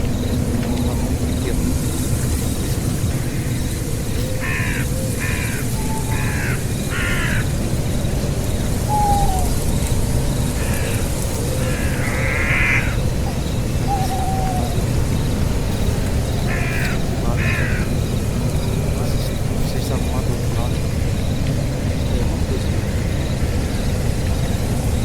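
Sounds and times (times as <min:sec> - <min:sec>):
animal harsh calls: 0:00.0 - 0:07.7, 0:08.7 - 0:21.0
steady low rumble: 0:00.0 - 0:25.0.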